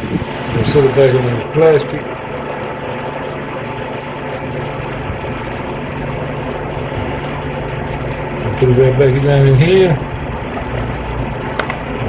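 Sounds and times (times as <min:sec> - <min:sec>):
mechanical drone with hum: 0:00.0 - 0:12.0.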